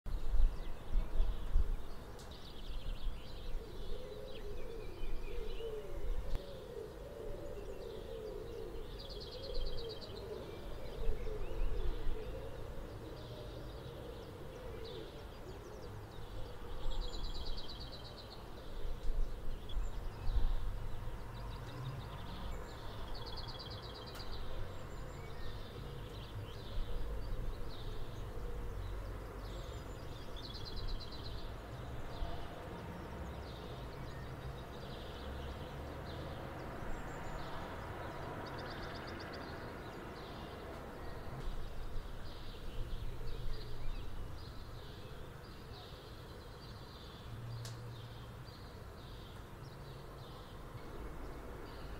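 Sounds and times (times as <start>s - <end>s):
distant traffic rumble: 0.1s - 51.9s.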